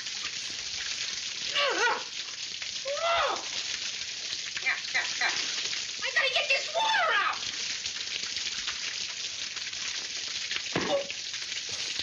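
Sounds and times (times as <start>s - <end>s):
crackling film soundtrack hiss: 0.0s - 12.0s.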